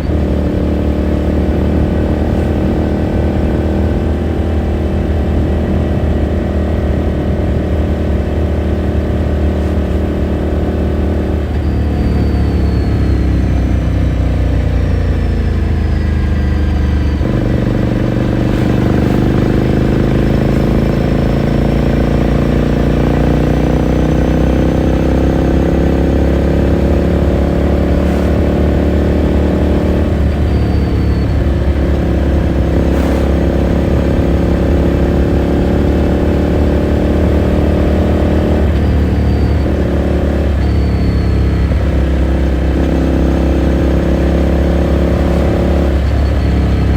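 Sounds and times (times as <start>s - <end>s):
motorcycle engine and exhaust: 0.0s - 46.9s.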